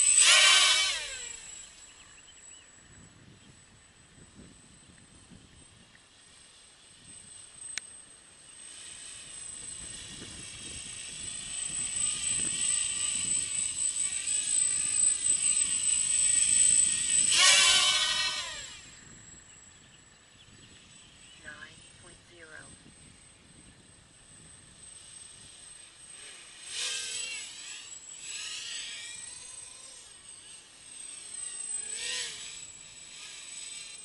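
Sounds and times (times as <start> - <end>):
drone motors whirring: 0.0 - 34.0.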